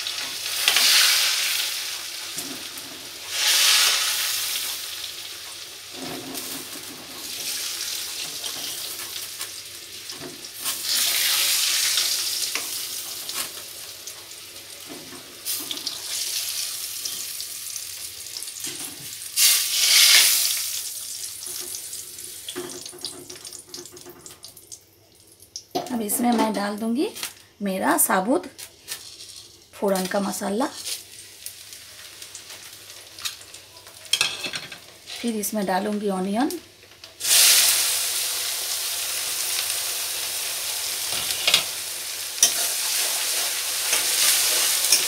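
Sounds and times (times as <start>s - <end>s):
potatoes sizzling in hot fat: 0.0s - 45.0s.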